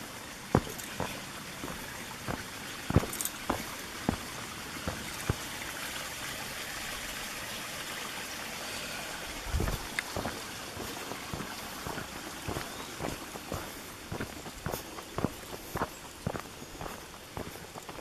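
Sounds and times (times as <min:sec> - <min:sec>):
stream trickling over rocks: 0:00.0 - 0:18.0.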